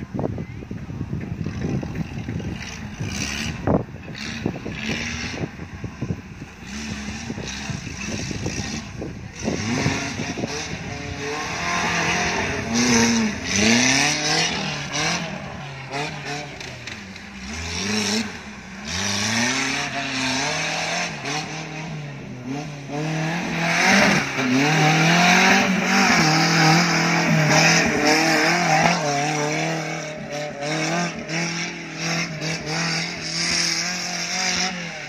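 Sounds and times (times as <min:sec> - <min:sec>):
engine revving hard: 0:01.4 - 0:05.6, 0:06.6 - 0:35.0.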